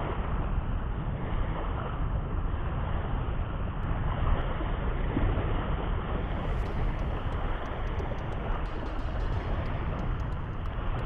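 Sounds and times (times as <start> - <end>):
wind buffeting microphone: 0.8 - 11.0.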